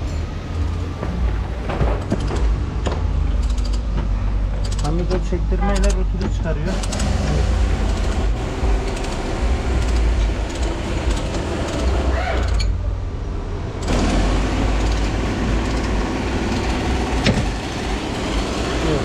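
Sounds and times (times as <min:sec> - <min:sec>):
low workshop rumble: 0:00.0 - 0:19.0.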